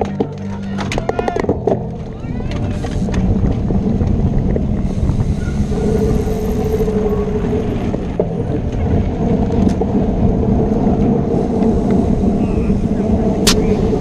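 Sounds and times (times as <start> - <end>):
bike tyres rolling over gravel: 0.0 - 14.0
wind buffeting microphone: 1.0 - 14.0.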